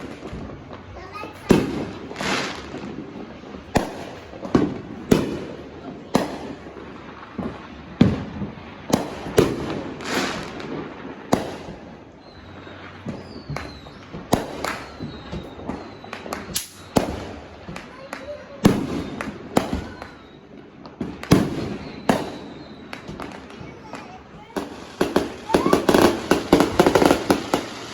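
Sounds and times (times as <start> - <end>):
firecracker bangs: 0.0 - 27.9
hissing crackle: 0.0 - 27.9.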